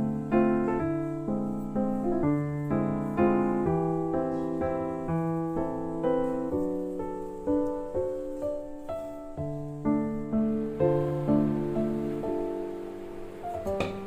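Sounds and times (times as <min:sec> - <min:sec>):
soft piano melody: 0:00.0 - 0:14.0.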